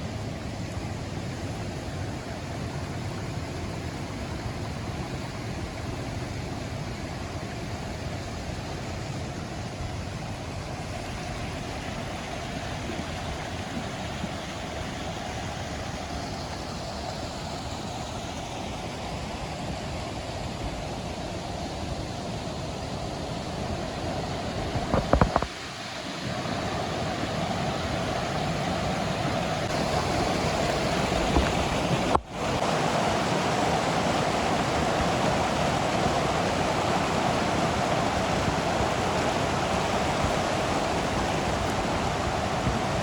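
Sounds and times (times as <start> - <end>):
flowing water rushing: 0.0 - 43.0.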